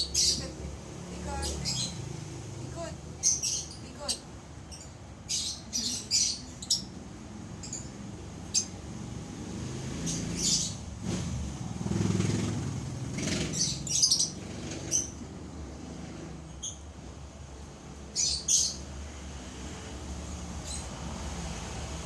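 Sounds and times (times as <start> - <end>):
lovebirds chirping: 0.0 - 11.2, 12.2 - 21.6.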